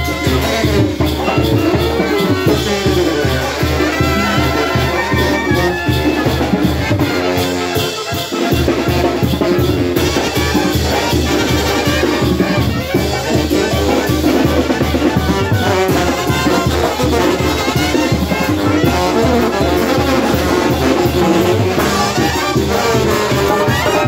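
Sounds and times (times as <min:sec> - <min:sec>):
brass band playing dance tune: 0:00.0 - 0:24.0.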